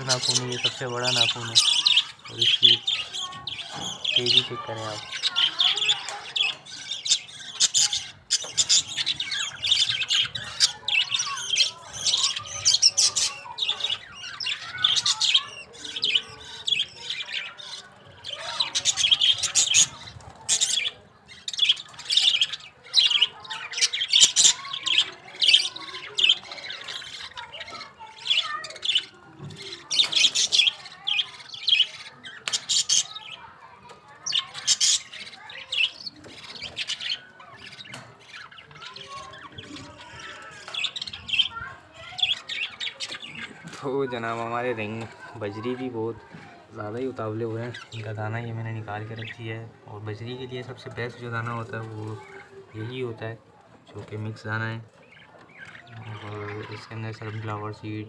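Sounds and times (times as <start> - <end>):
budgerigars chirping: 0.0 - 33.5, 34.3 - 46.2, 46.8 - 58.0.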